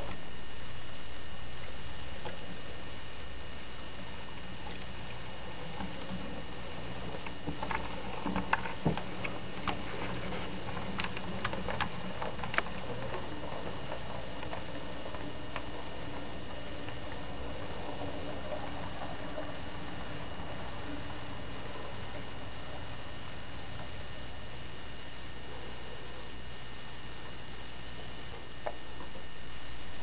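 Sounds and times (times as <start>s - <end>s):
steady low hum: 0.0s - 30.0s
model train wheels clicking: 1.8s - 29.2s.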